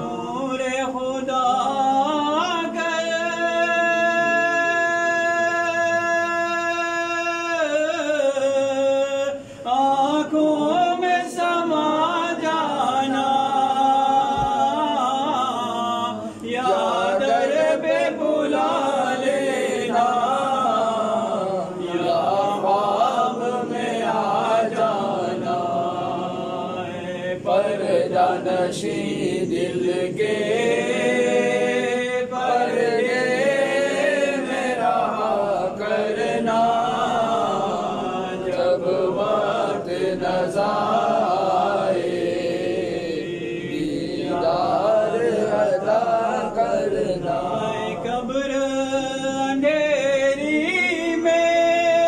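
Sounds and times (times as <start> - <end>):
men chanting unaccompanied: 0.0 - 52.0.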